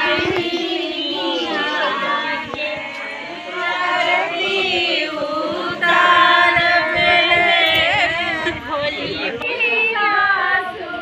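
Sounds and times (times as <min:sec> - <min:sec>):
women singing in chorus: 0:00.0 - 0:11.0.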